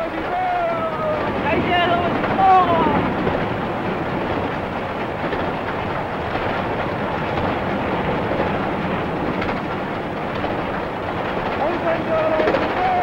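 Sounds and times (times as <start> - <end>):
steam locomotive rumbling: 0.0 - 13.0.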